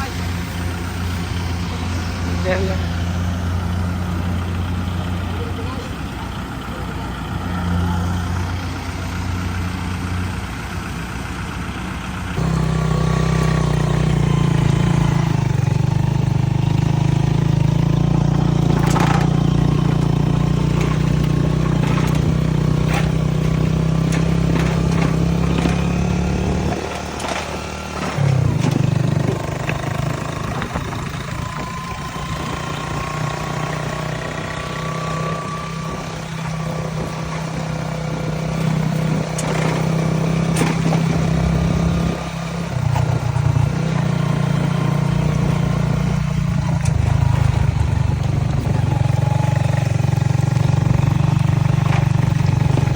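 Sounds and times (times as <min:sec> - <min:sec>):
harvester engine running: 0:00.0 - 0:52.9.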